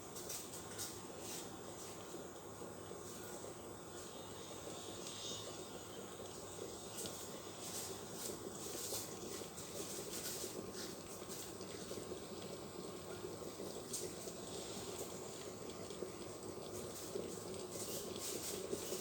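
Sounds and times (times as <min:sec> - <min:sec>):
coffee maker bubbling and hissing: 0:00.0 - 0:19.0.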